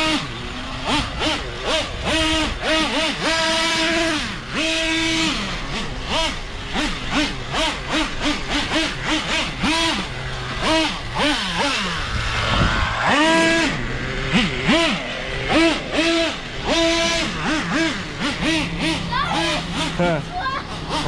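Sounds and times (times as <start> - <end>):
nitro engine revving: 0.0 - 21.0.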